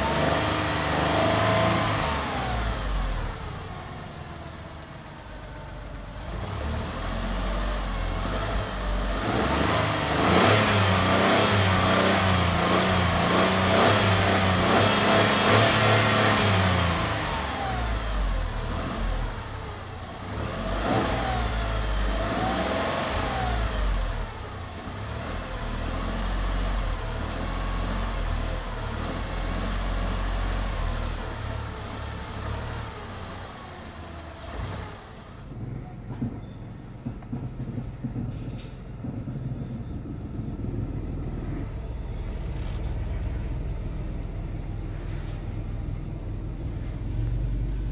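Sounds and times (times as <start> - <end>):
car engine revving: 0.0 - 36.0, 39.0 - 47.9.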